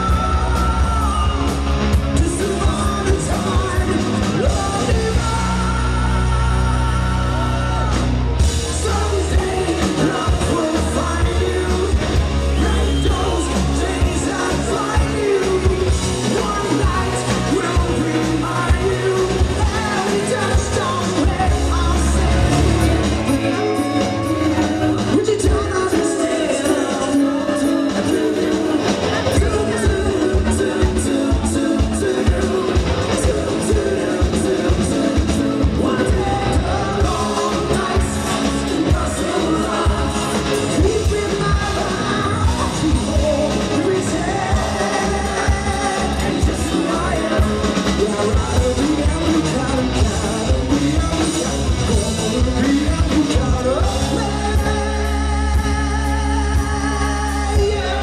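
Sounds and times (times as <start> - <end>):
lead vocals singing: 0.0 - 58.0
live rock band playing: 0.0 - 58.0.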